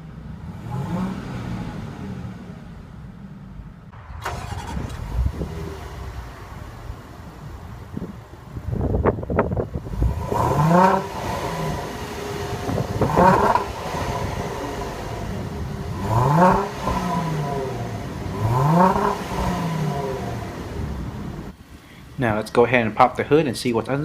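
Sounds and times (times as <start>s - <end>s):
car engine revving from idle: 0.0s - 8.6s, 9.6s - 21.6s.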